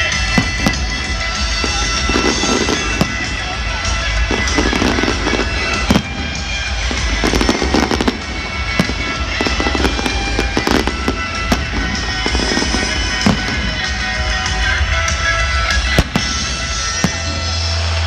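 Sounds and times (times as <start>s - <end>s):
fireworks bursting: 0.0s - 18.0s
music playing: 0.0s - 18.0s.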